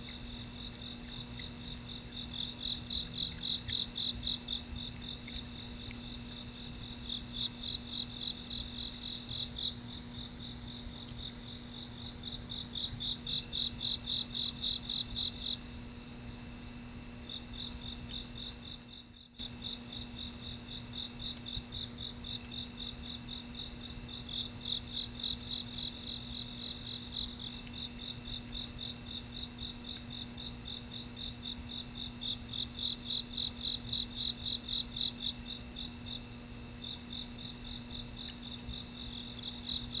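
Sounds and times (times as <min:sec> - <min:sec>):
crickets pulsing chirp: 0:00.0 - 0:40.0.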